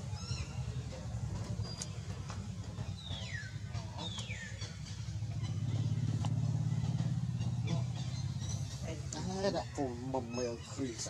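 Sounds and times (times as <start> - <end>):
vehicle engine running: 0.0 - 10.3.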